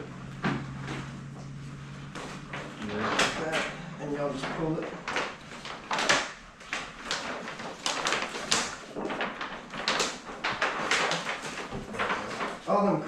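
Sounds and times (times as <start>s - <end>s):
liner peeling off vinyl film: 2.0s - 12.7s.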